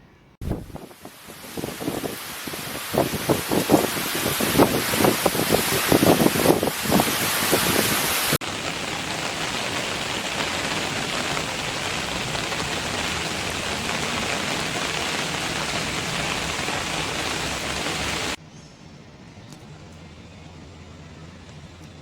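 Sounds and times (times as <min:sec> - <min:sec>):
heavy rain falling: 0:00.4 - 0:18.4.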